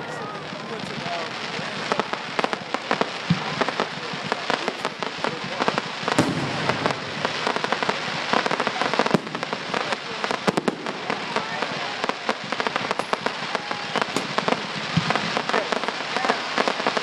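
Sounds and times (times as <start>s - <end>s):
firework bangs: 0.0s - 17.0s
fireworks crackling and popping: 0.0s - 17.0s.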